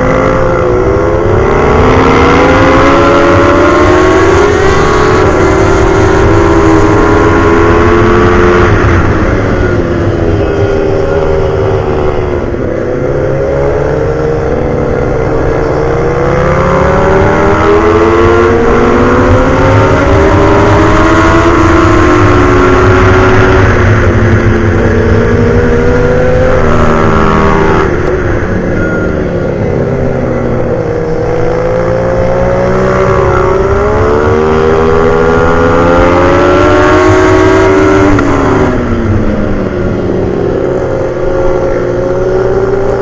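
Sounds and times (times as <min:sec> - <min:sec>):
low rush of wind: 0:00.0 - 0:43.0
motorcycle engines revving: 0:00.0 - 0:43.0.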